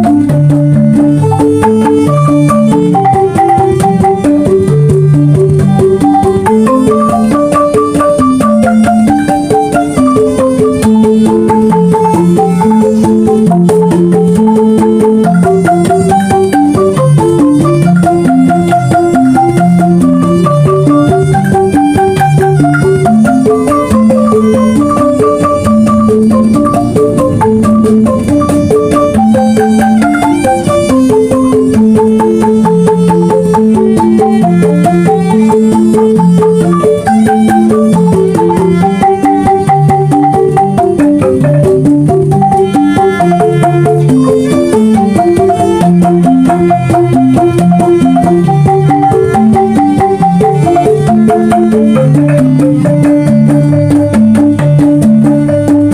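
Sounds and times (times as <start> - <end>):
bamboo xylophones playing: 0.0 - 55.9
drum: 0.0 - 55.9.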